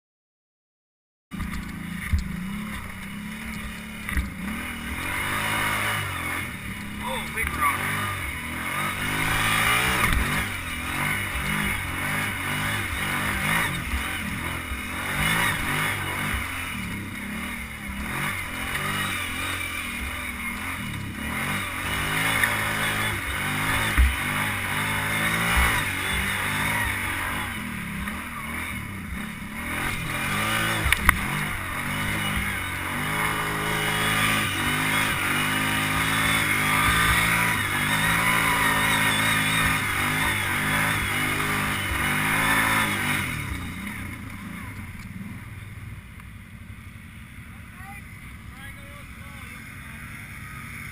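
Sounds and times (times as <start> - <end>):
atv engine revving: 1.3 - 50.9.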